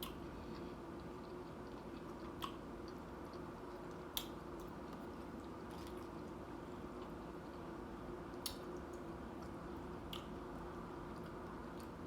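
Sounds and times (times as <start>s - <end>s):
faint steady hum: 0.0s - 12.0s
person chewing nachos: 0.0s - 12.0s.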